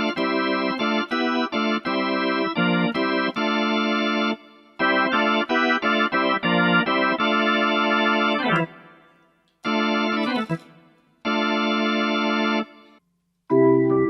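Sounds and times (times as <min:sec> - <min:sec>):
electronic organ chords: 0:00.0 - 0:14.0.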